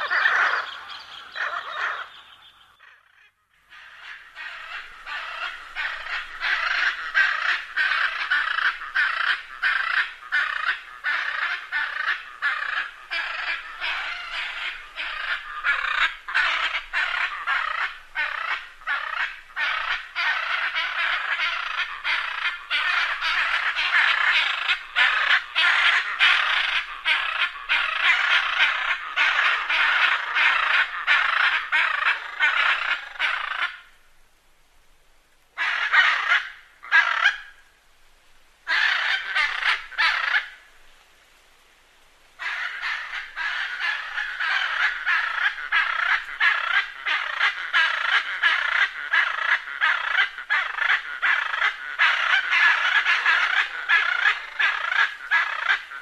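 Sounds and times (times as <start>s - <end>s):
macaws squawking: 0.0s - 34.0s, 35.6s - 37.6s, 38.6s - 40.6s, 42.4s - 56.0s.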